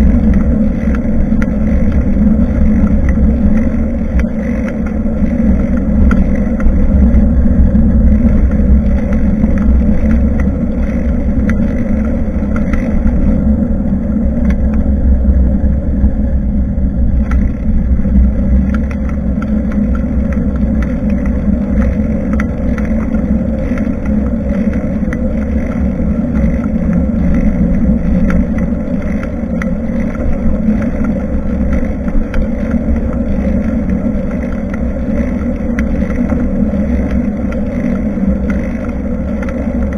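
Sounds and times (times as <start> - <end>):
small clicks and rattles: 0.0 - 15.4, 17.0 - 39.9
wind and road rumble: 0.0 - 39.9.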